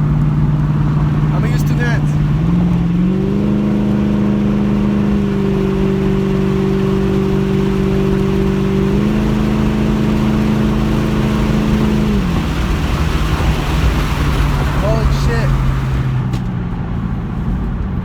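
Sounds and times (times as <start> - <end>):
car engine at high revs: 0.0 - 18.0
road and wind noise: 0.0 - 18.0.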